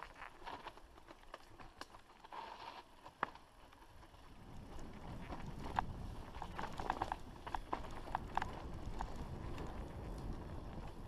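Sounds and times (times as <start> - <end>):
bike clicks and rattles: 0.0 - 11.0.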